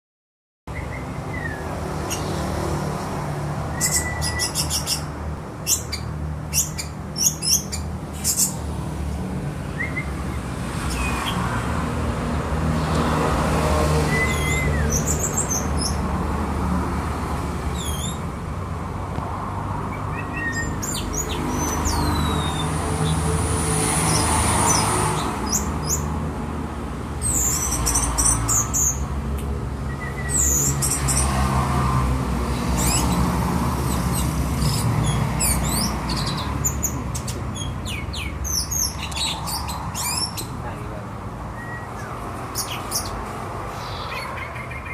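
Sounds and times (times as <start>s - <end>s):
thrush singing chirps and trills: 0.7s - 12.1s, 13.5s - 16.4s, 17.4s - 18.4s, 19.7s - 26.3s, 27.0s - 40.7s, 41.4s - 44.9s.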